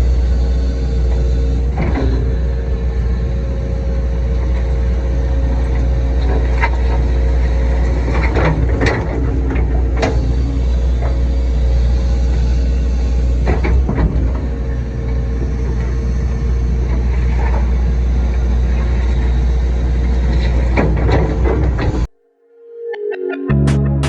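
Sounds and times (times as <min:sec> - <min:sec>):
excavator diesel engine running: 0:00.0 - 0:22.1.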